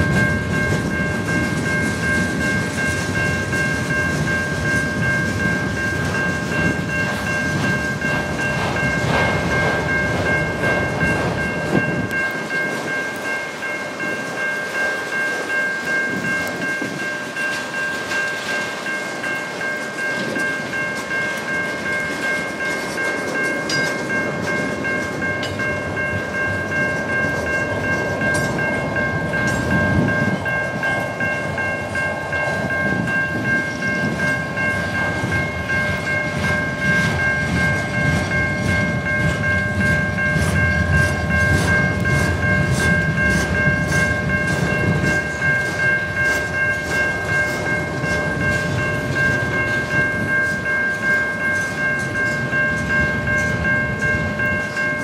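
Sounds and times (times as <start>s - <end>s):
level crossing warning bell: 0.0s - 55.0s
train wheels rumbling on rail: 0.0s - 55.0s
wheels clicking over rail joints: 0.0s - 55.0s.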